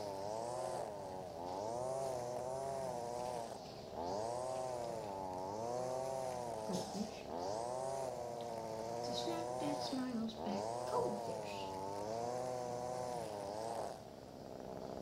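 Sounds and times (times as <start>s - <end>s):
string trimmer engine cutting grass: 0.0s - 15.0s.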